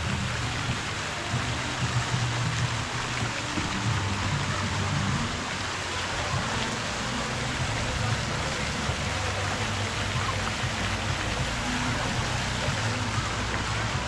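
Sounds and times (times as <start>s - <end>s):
fountain water splashing into pool: 0.0s - 14.0s.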